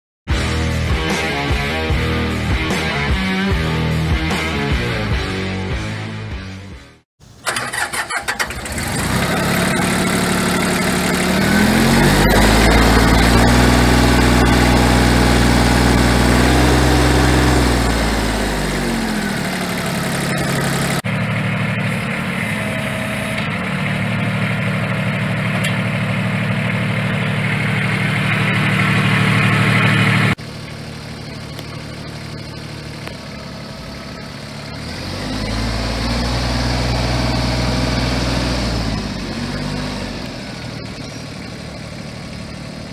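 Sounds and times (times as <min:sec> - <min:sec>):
tractor diesel engine revving: 0:07.2 - 0:42.9.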